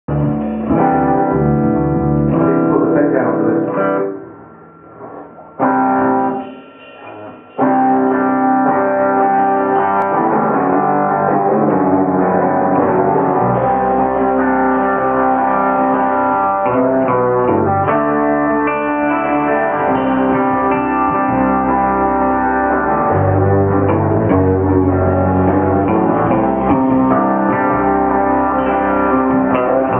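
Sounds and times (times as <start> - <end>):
bass guitar: 0.0 - 29.9
electric guitar: 0.0 - 29.9
drums: 0.1 - 29.9.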